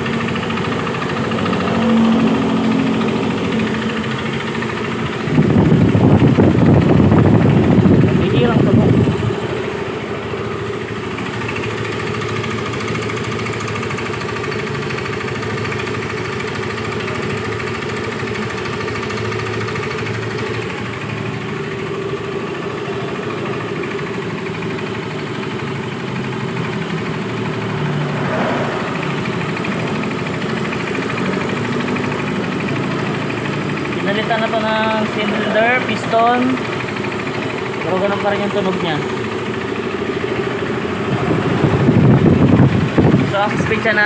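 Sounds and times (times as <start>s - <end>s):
scooter engine idling with knocking: 0.0s - 44.0s.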